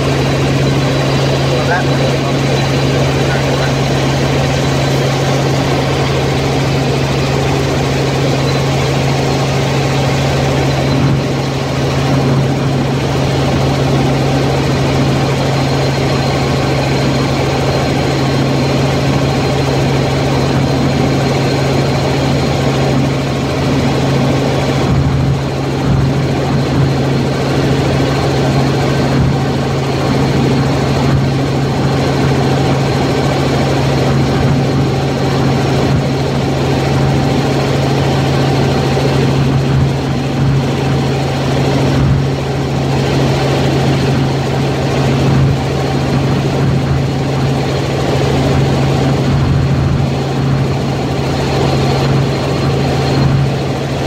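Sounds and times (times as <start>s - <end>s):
helicopter rotor and engine hum: 0.0s - 54.0s.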